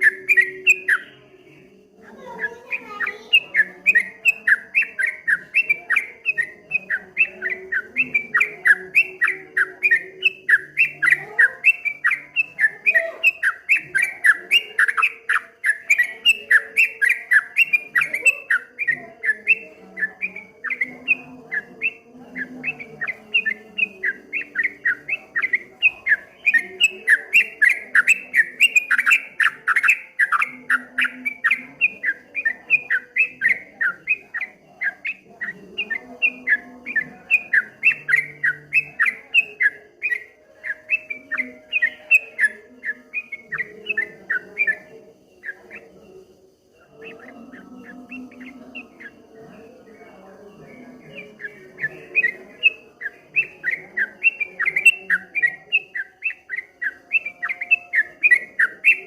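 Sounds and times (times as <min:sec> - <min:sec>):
bulbul chirping song: 0:00.0 - 0:59.0.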